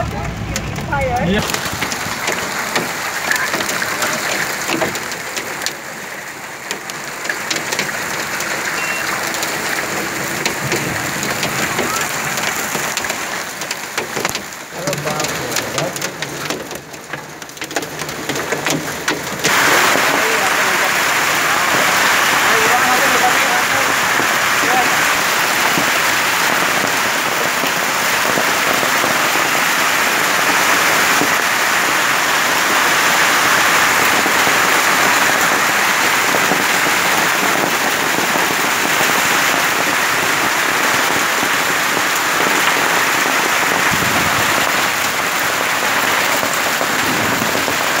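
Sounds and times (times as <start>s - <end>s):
heavy rain hissing: 0.0s - 16.8s, 17.9s - 48.0s
hailstones pattering on street: 0.0s - 48.0s.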